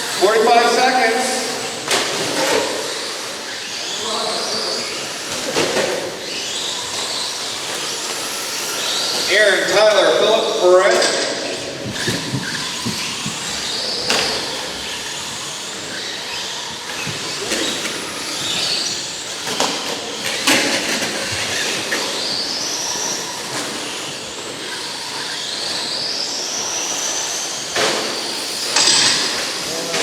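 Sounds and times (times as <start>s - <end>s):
toy truck motors whining: 0.0s - 30.0s.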